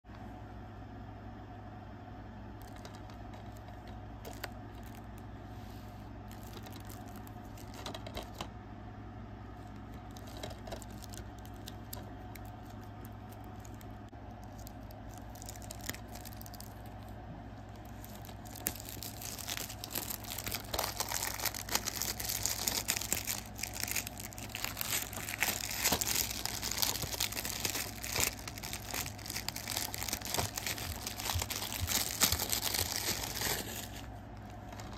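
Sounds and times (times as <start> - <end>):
plastic shrink-wrap crinkling: 2.6 - 5.3, 6.2 - 8.5, 9.6 - 34.9.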